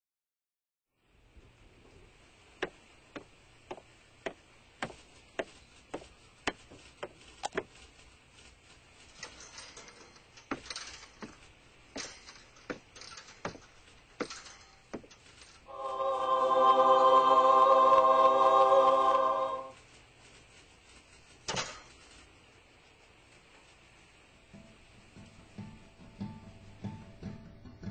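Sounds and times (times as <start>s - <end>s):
soft rustling: 1.3s - 16.1s, 19.1s - 26.9s.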